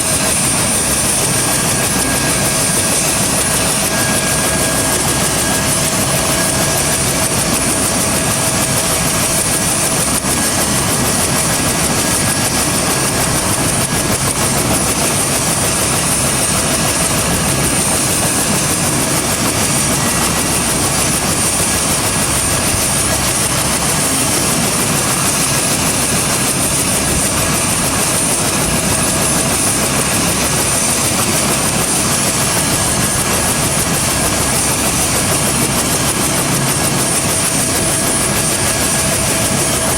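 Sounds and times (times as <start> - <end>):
helicopter engine running: 0.0 - 39.9
high turbine whine: 0.0 - 39.9.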